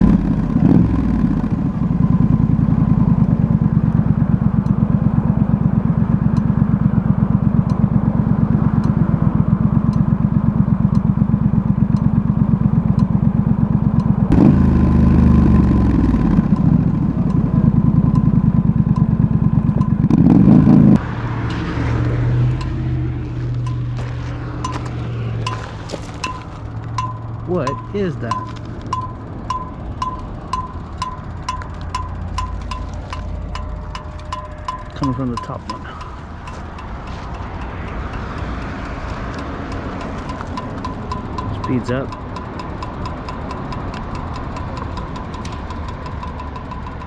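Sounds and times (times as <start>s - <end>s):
faint sharp ticking: 0.0s - 21.0s, 26.2s - 47.0s
motorcycle engine running: 0.0s - 47.0s.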